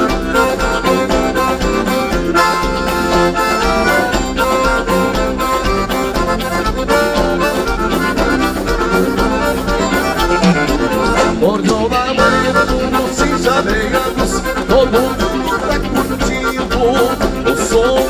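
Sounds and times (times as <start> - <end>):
accordion: 0.0 - 18.0
dance band playing: 0.0 - 18.0.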